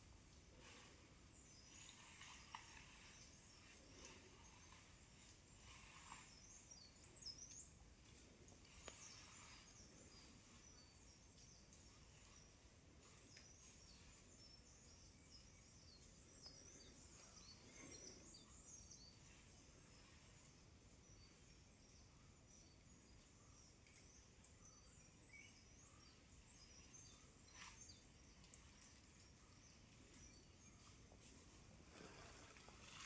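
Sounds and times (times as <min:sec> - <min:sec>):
faint outdoor ambience: 0:00.0 - 0:33.0.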